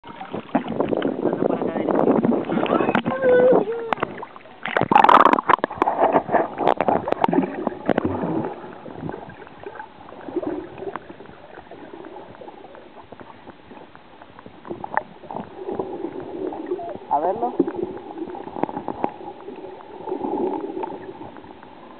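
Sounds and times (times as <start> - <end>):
muffled underwater noise: 0.0 - 21.9
water splashing and bubbling: 0.0 - 21.9.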